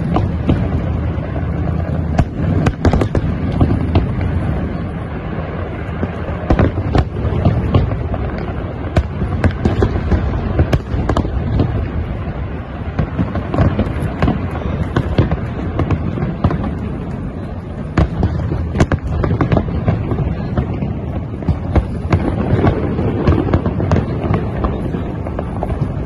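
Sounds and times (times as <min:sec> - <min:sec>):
continuous low rumble: 0:00.0 - 0:26.0
fireworks bangs and crackles: 0:00.0 - 0:26.0.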